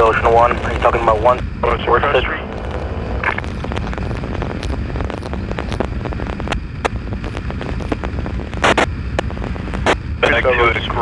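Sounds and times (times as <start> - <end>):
wind rumble: 0.0 - 11.0.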